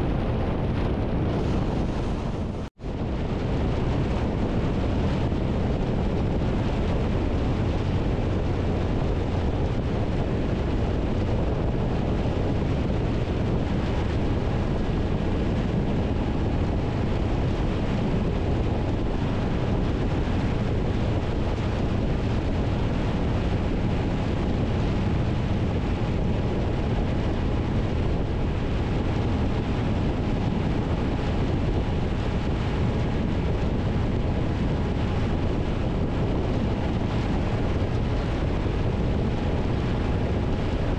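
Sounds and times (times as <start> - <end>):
motorcycle engine and tyre noise: 0.0 - 40.9
wind rush on microphone: 0.0 - 40.9.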